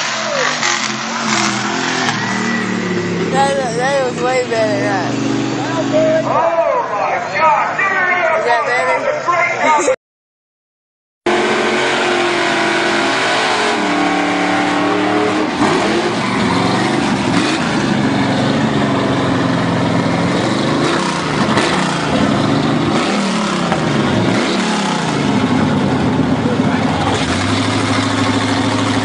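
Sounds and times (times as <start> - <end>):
car engine accelerating: 0.0 - 6.5, 11.3 - 29.0
road and wind noise: 0.0 - 9.9, 11.3 - 29.0.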